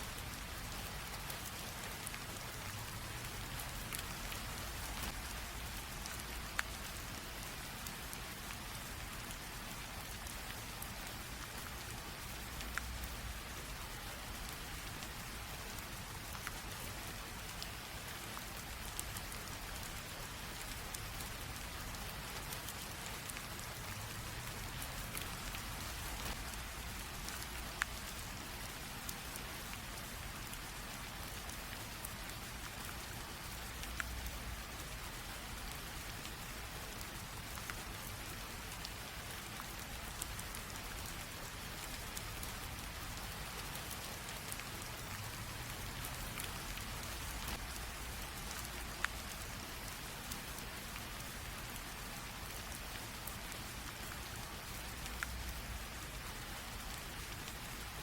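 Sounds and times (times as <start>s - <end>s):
light rain drizzling: 0.0s - 58.0s
single raindrops ticking: 0.1s - 8.6s, 17.4s - 58.0s.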